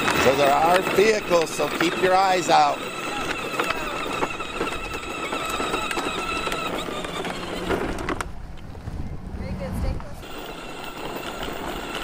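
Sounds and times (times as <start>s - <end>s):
toy electric motor whine: 0.0s - 8.3s, 10.2s - 12.0s.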